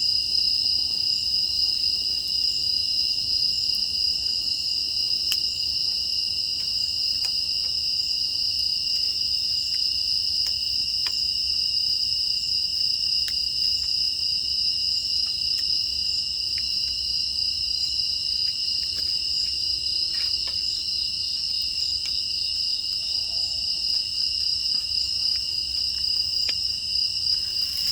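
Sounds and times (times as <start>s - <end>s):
crickets trilling: 0.0s - 27.9s.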